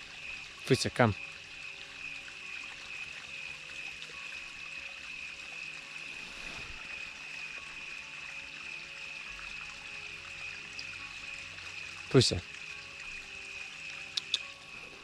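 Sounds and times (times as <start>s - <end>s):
continuous hiss like flowing water: 0.0s - 15.0s.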